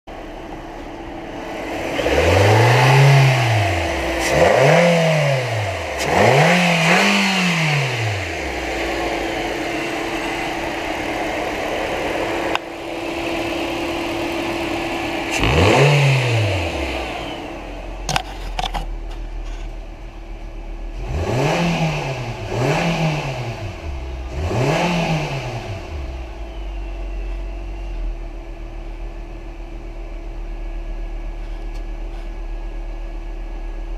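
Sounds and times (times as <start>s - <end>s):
car engine revving: 0.1s - 28.6s.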